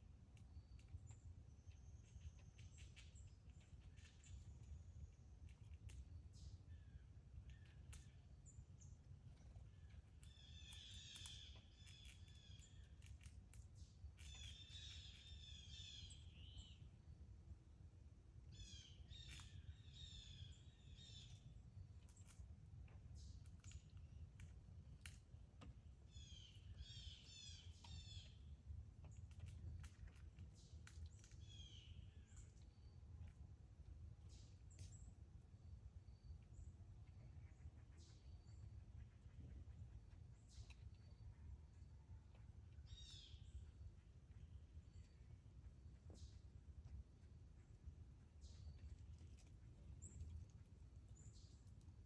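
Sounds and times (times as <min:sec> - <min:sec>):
low background rumble: 0:00.0 - 0:52.0
songbird singing: 0:00.2 - 0:17.1, 0:18.3 - 0:52.0.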